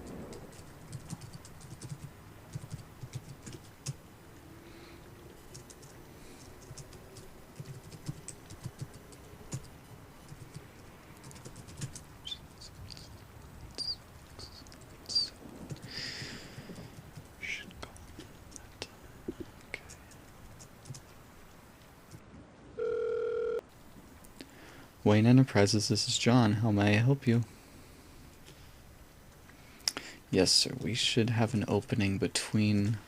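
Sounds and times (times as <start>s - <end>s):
rain: 0.0s - 22.2s, 23.7s - 26.3s, 27.5s - 33.0s
city ambience: 0.0s - 33.0s.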